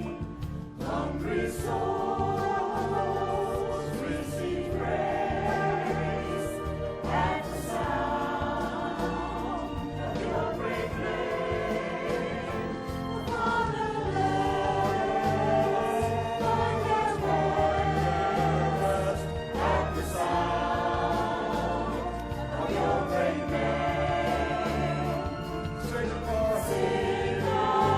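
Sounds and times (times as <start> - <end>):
choir singing gospel music: 0.0 - 27.9
instrumental accompaniment: 0.0 - 27.9
steady bass line: 0.0 - 27.9.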